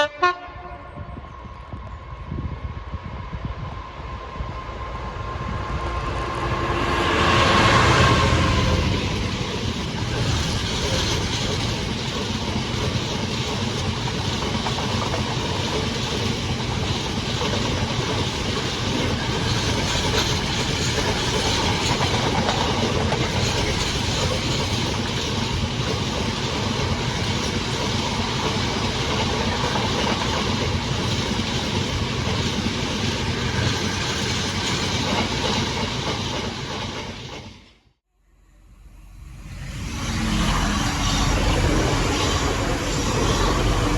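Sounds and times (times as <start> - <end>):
train wheels on rails: 1.1 - 37.9, 39.2 - 43.9.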